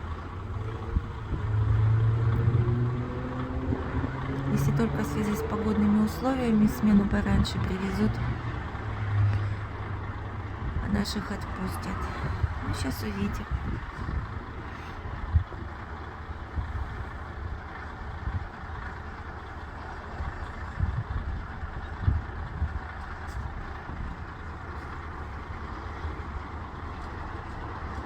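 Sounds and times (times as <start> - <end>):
bus engine rumble: 0.0 - 28.0.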